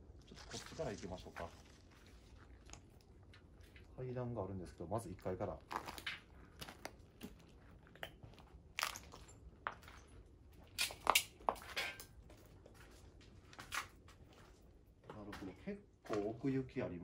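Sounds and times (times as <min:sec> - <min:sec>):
footsteps crunching on rubble: 0:00.0 - 0:04.0, 0:05.0 - 0:16.4.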